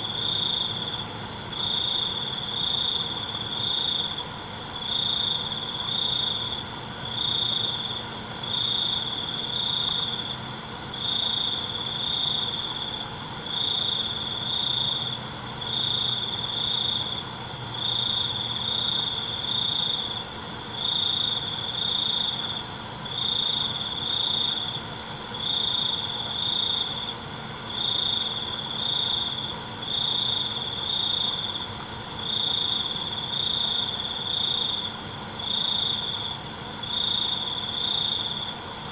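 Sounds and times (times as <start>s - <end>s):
crickets chirping: 0.0s - 38.9s
insects trilling: 0.0s - 38.9s.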